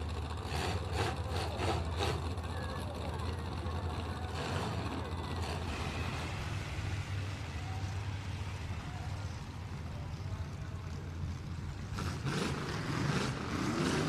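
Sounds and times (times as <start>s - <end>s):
car engines rumbling: 0.0s - 14.0s.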